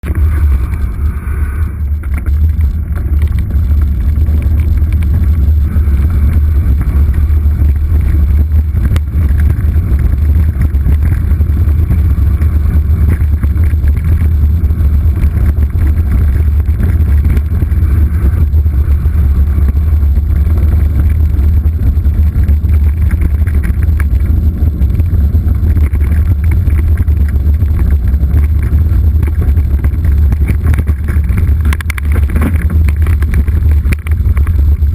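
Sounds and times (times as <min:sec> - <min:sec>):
bike tyres on trail: 0:00.0 - 0:34.9
wind buffeting microphone: 0:00.0 - 0:34.9.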